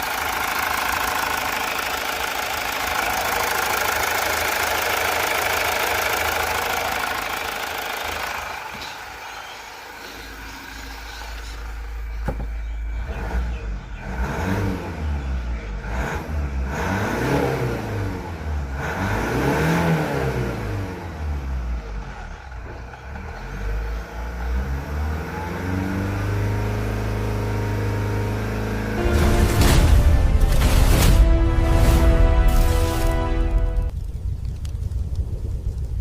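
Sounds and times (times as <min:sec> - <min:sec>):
diesel engine revving: 0:00.0 - 0:33.9.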